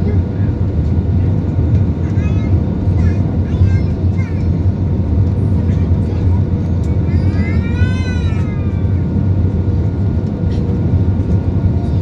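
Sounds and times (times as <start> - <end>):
jet airliner cabin rumble: 0.0 - 12.0.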